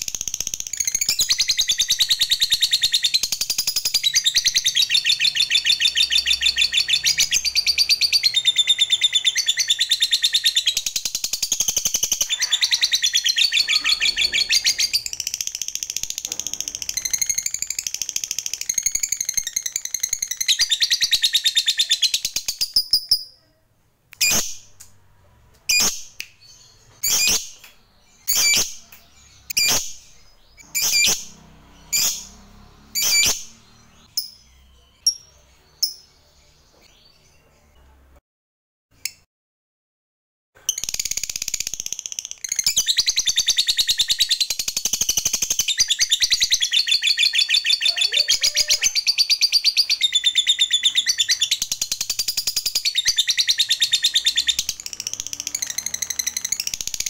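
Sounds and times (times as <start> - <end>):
sharp bird chirps: 0.0 - 23.6, 24.2 - 37.5, 40.6 - 57.0.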